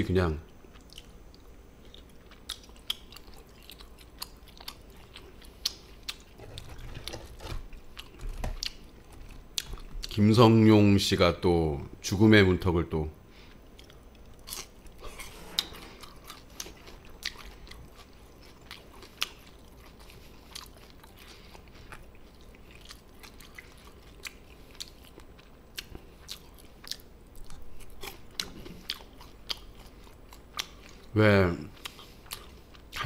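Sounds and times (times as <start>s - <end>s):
person chewing: 0.6s - 10.2s, 13.4s - 33.0s.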